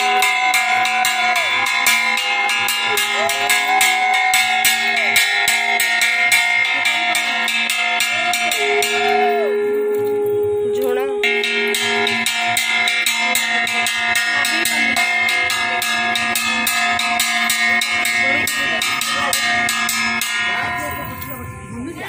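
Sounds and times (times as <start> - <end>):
brass hand bell ringing rapidly: 0.0 - 22.0.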